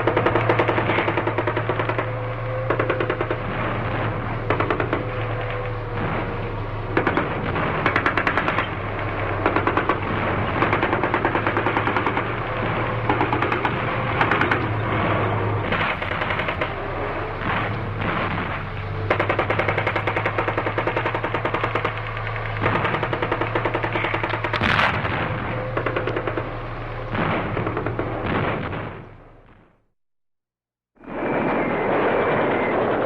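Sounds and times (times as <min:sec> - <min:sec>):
low drone: 0:00.0 - 0:29.6
machine-gun fire: 0:00.0 - 0:29.6.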